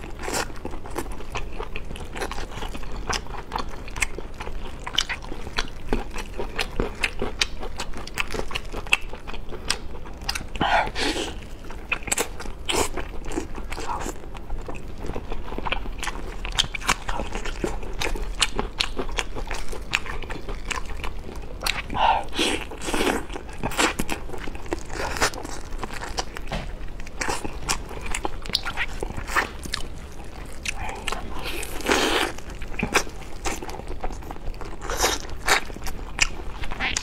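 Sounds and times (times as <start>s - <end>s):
chewing and biting: 0.0s - 37.0s.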